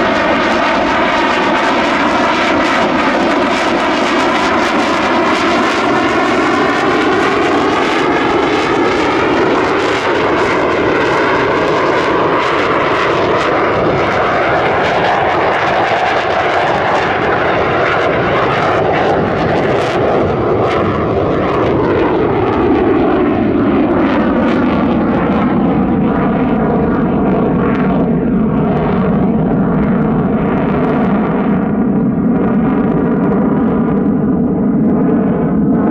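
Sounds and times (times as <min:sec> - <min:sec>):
jet engine rumble overhead: 0:00.0 - 0:35.9.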